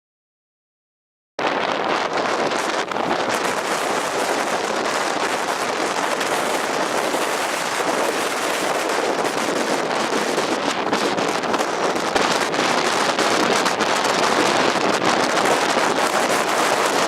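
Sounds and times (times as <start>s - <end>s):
strong wind on microphone: 1.4s - 17.0s.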